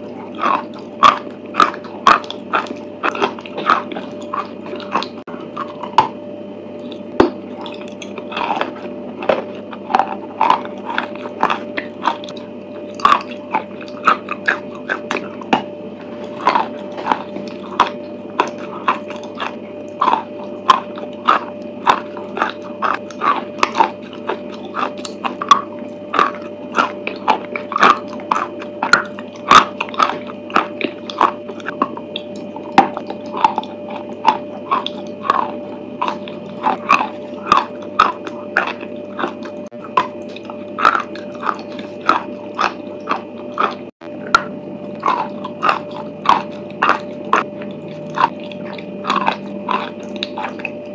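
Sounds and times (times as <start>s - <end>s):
wet chewing and mouth clicks: 0.0s - 6.2s, 6.8s - 50.9s
background hum: 0.0s - 50.9s.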